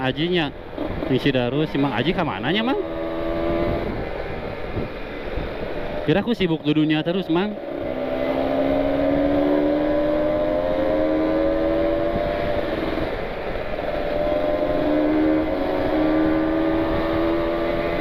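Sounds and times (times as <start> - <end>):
motorcycle engine revving: 0.0 - 6.1, 7.4 - 18.0
wind noise: 0.0 - 18.0.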